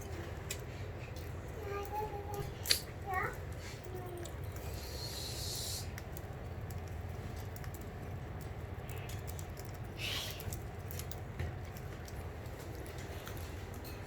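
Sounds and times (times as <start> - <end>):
birds cracking seeds: 0.0 - 14.0.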